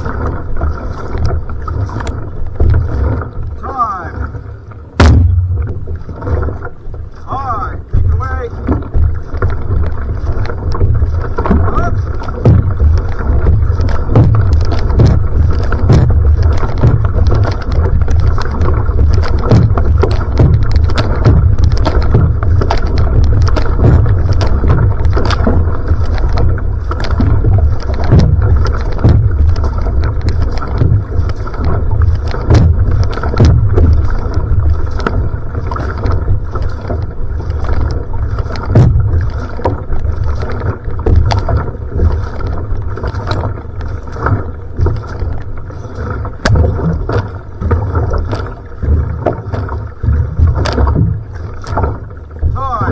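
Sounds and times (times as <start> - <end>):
paddle strokes splashing: 0.0 - 52.9
water rushing along hull: 0.0 - 52.9
wind rumble on microphone: 0.0 - 52.9.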